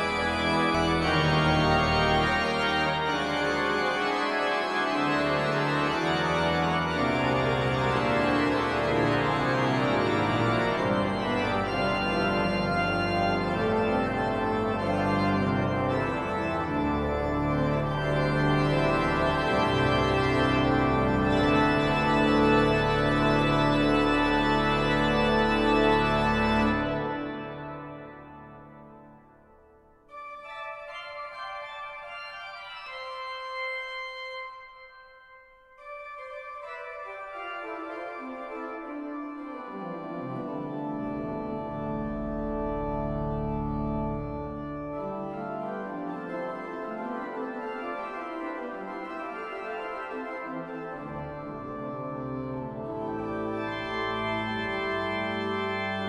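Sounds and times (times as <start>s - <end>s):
pipe organ playing toccata: 0.0s - 29.4s, 30.1s - 56.0s.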